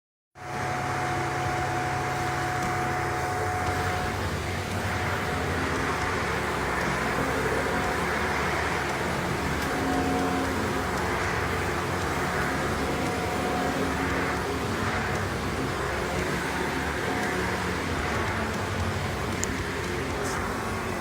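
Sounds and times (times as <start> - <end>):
vacuum cleaner whirring: 0.4 - 21.0.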